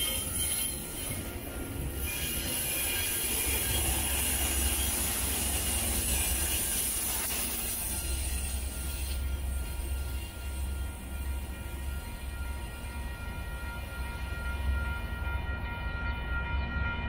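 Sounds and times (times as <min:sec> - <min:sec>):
train wheels clattering and squealing: 0:00.0 - 0:15.1.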